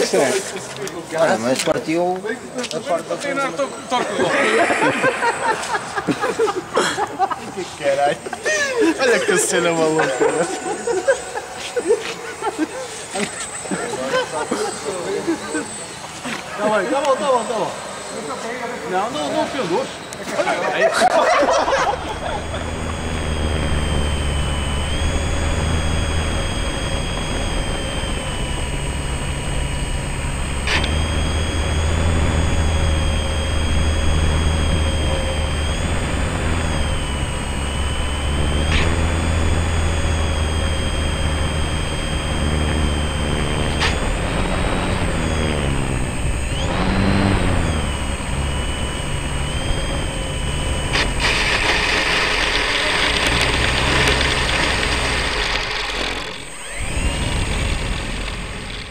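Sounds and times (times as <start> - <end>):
electric motor and propeller whine: 0.0 - 58.9.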